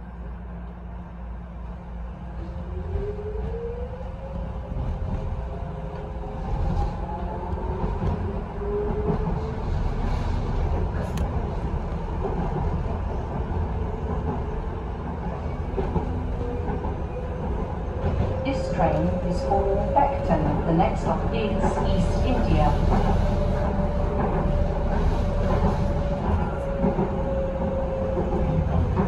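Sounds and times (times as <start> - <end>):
wheels rumbling on rails: 0.0 - 29.0.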